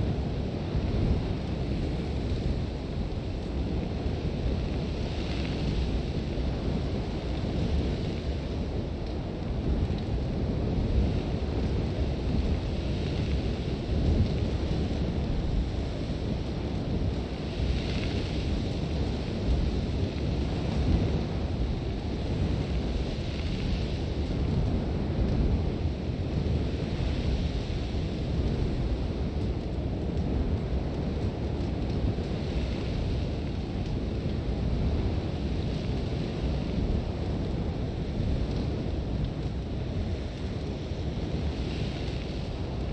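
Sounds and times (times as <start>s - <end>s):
low wind rumble: 0.0s - 42.9s.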